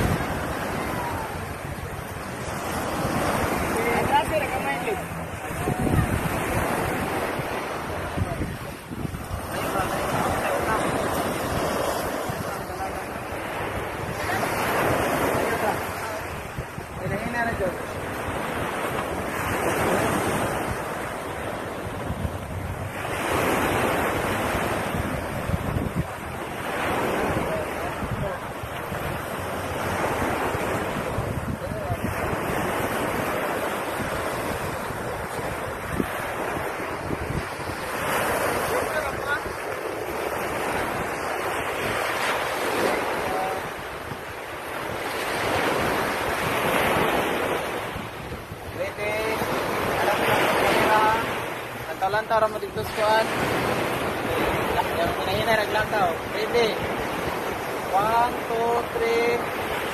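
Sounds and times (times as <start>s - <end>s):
wind buffeting microphone: 0.0s - 52.0s
surf washing on a beach: 0.0s - 59.9s.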